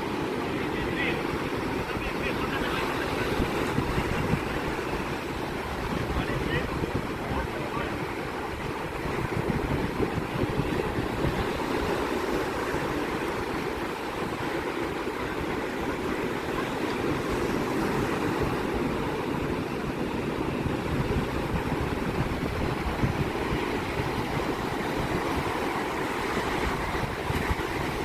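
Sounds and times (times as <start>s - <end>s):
sea surf breaking: 0.0s - 28.0s
wind buffeting microphone: 0.0s - 28.0s.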